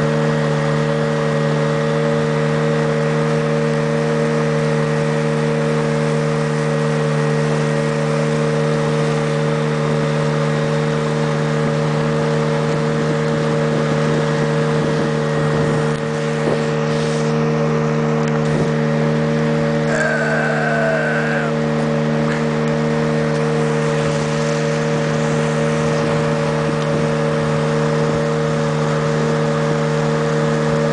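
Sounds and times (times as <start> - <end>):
boat motor droning: 0.0 - 30.9
wind: 0.0 - 30.9.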